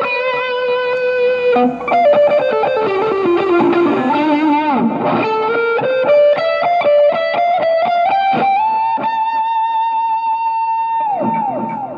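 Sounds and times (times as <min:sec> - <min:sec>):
electric guitar notes: 0:00.0 - 0:11.9.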